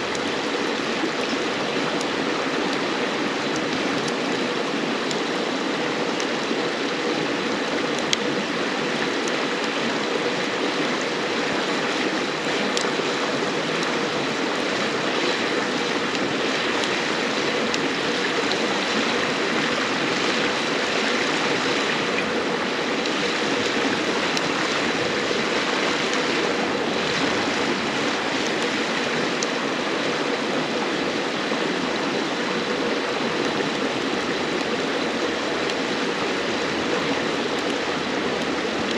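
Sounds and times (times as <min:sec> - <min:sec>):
campfire wood popping: 0:00.0 - 0:29.6, 0:33.3 - 0:38.9
river flowing: 0:00.0 - 0:38.9.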